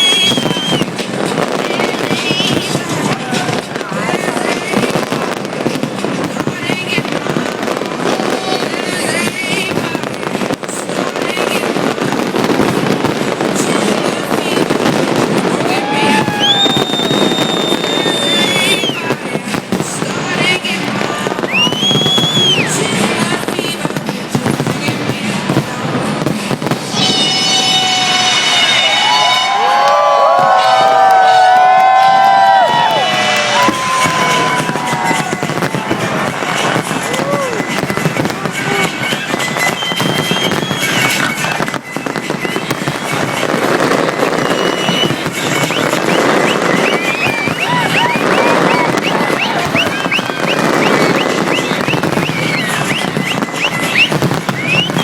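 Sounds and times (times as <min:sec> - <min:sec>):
high firework whistles: 0:00.0 - 0:23.8, 0:26.4 - 0:55.0
fireworks bangs and crackles: 0:00.0 - 0:55.0.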